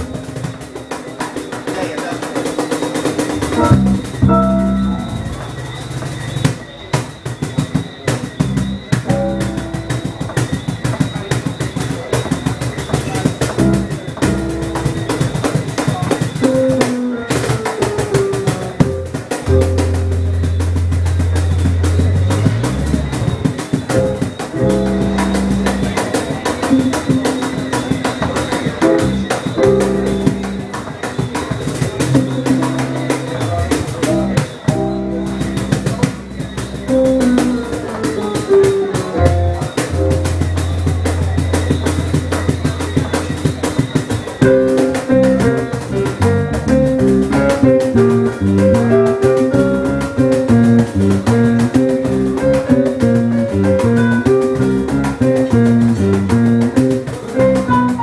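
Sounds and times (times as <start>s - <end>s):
cajon strikes: 0.0s - 58.0s
electric bass lines: 3.2s - 6.6s, 8.2s - 10.7s, 13.5s - 15.8s, 18.1s - 30.9s, 32.0s - 58.0s.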